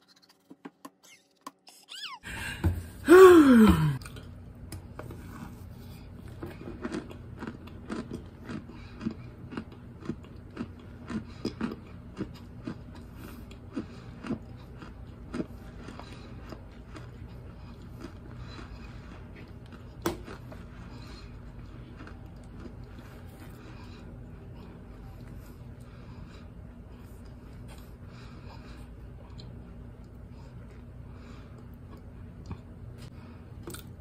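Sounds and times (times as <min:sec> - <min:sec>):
person chewing crisp crunches: 0:05.1 - 0:34.0.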